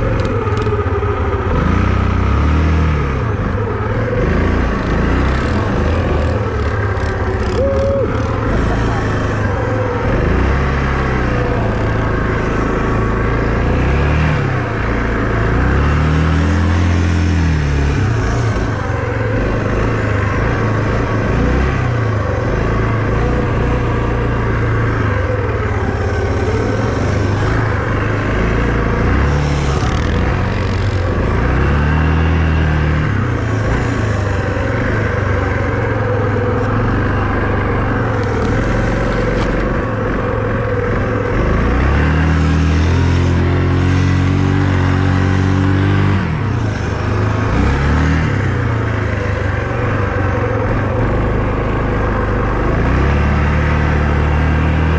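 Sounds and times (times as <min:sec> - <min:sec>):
vehicle engine revving: 0:00.0 - 0:54.9.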